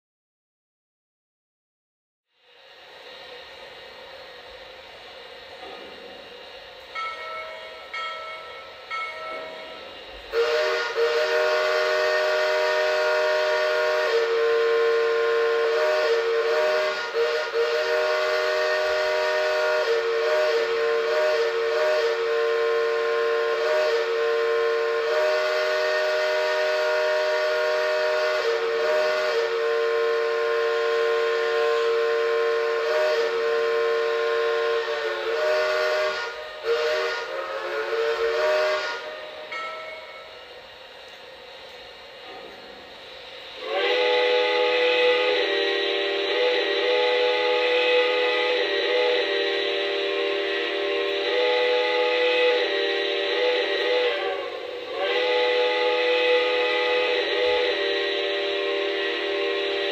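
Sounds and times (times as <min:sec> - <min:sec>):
multi-tone train whistle: 0:02.3 - 0:59.9.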